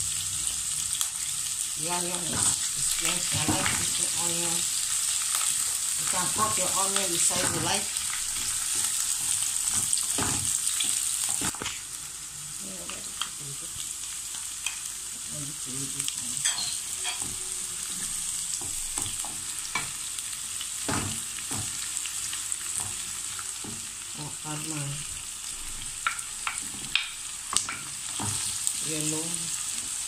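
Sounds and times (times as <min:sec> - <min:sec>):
onions sizzling in a frying pan: 0:00.0 - 0:30.0.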